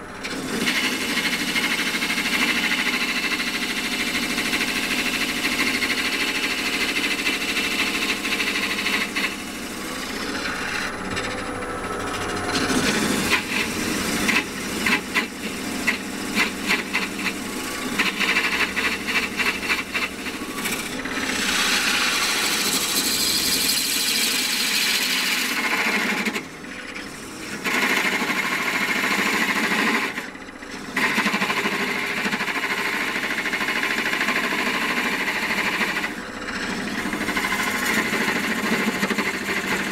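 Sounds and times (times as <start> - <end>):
wood lathe cutting wood: 0.0 - 39.9.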